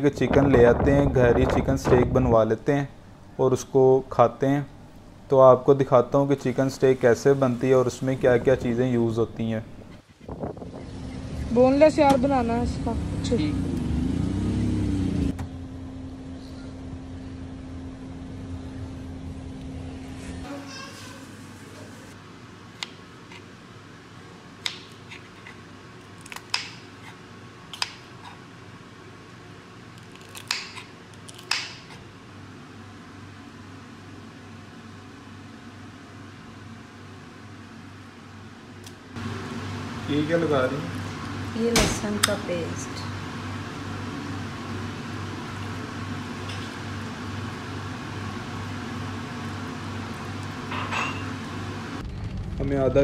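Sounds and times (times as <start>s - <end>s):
steady low hum: 0.0s - 20.5s, 21.1s - 53.0s.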